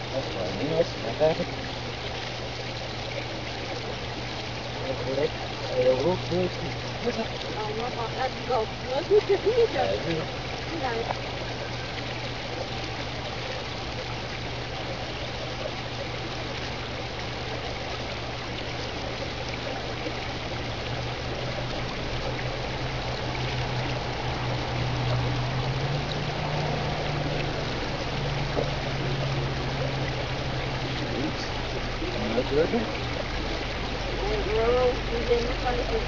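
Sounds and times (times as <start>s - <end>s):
low steady hum: 0.0s - 36.0s
stream water rushing backwards: 0.0s - 36.0s.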